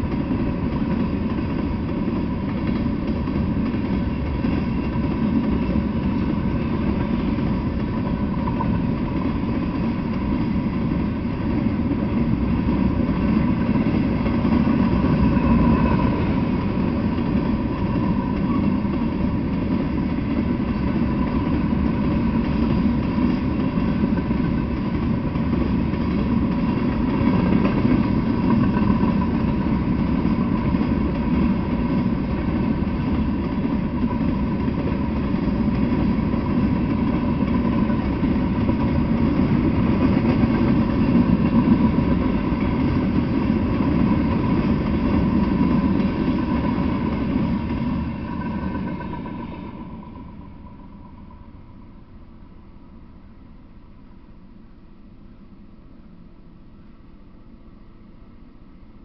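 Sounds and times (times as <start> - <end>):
train wheels rumbling on rails: 0.0 - 54.6
faint steady whine: 0.0 - 59.0.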